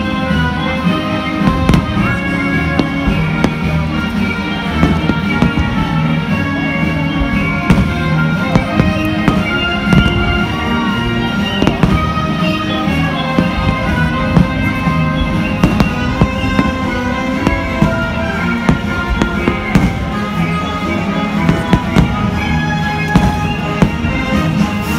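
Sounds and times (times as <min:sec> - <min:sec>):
loud music: 0:00.0 - 0:24.9
fireworks bangs: 0:00.6 - 0:24.9.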